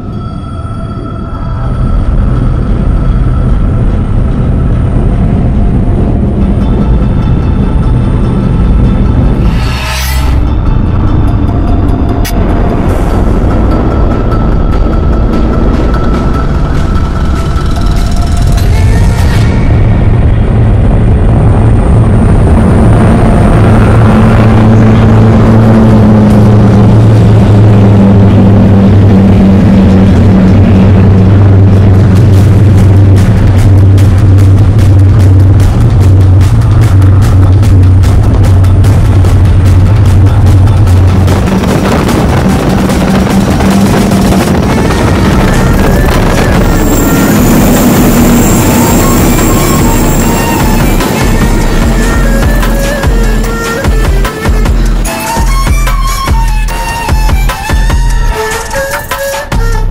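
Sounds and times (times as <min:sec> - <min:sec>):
powerboat engines running hard: 0:00.0 - 0:09.5, 0:10.4 - 0:59.9
rushing wind and water: 0:10.2 - 0:58.9.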